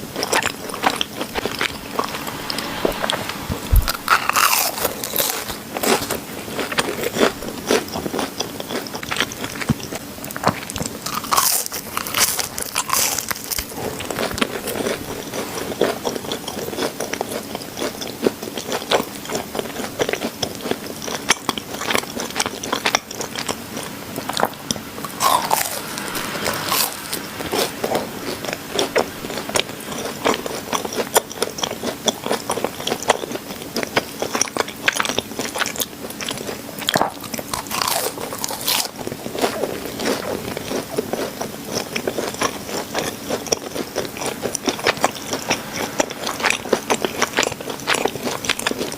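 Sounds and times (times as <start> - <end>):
chewing donuts: 4.1 - 27.0, 28.4 - 48.9.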